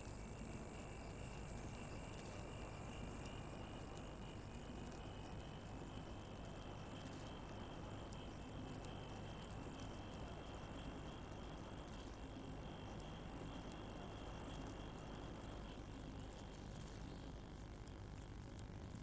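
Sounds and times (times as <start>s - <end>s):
low even hiss: 0.0s - 19.0s.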